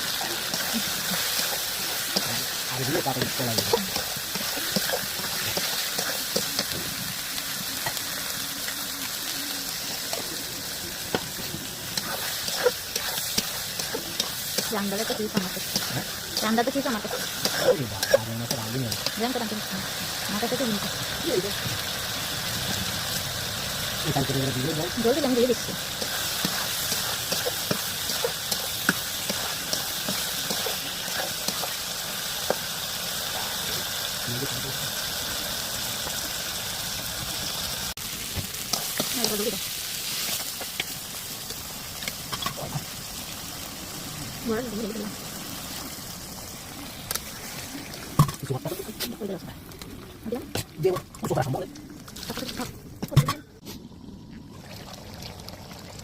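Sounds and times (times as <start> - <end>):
crackles and pops: 0.0 - 34.7, 37.0 - 56.0
food sizzling in a pan: 0.0 - 51.7.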